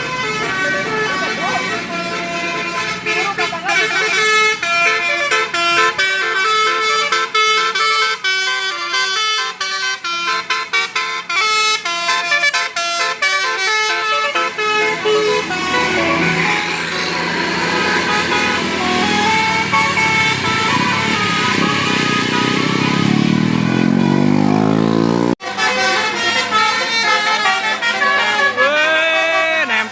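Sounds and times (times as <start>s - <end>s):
bus musical horn tune: 0.0s - 29.9s
engine and road noise: 0.0s - 29.9s.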